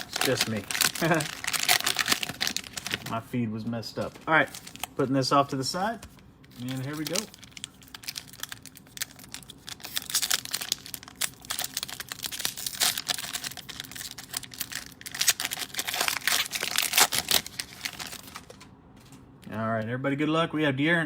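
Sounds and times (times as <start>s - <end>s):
cellophane wrapper crinkling: 0.0s - 3.2s, 4.0s - 5.0s, 6.0s - 18.7s.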